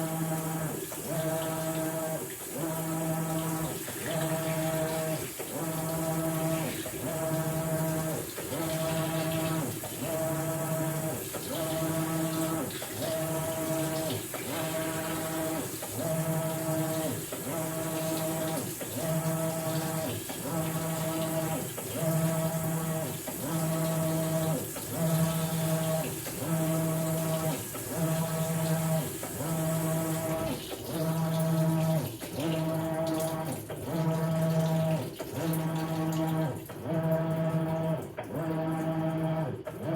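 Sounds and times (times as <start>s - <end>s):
washing machine motor humming: 0.0s - 39.9s
water sloshing in tub: 0.0s - 39.9s.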